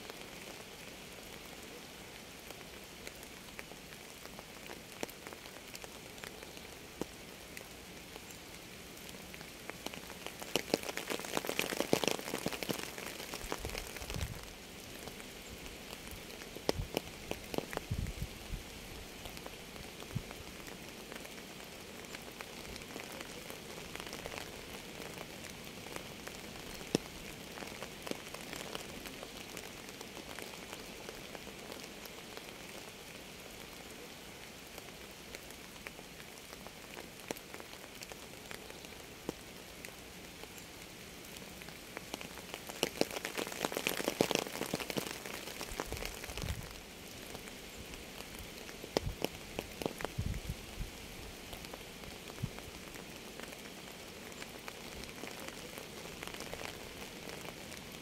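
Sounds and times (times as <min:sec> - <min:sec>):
rain drops on a hard surface: 0:00.0 - 0:58.0.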